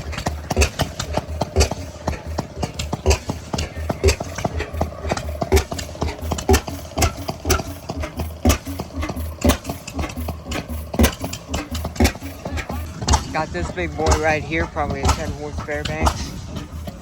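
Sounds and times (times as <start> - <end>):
gas engine exhaust pops: 0.0 - 17.0
low steady engine hum: 0.0 - 17.0.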